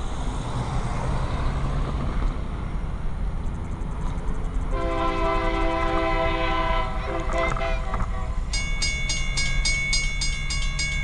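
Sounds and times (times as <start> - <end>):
freight train approaching: 0.0 - 11.0
low locomotive rumble: 0.0 - 11.0.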